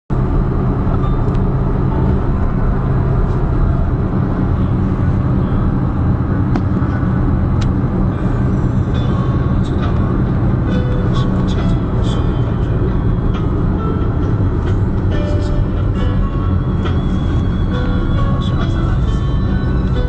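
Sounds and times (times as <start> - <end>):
low rumble of moving vehicle: 0.1 - 20.0.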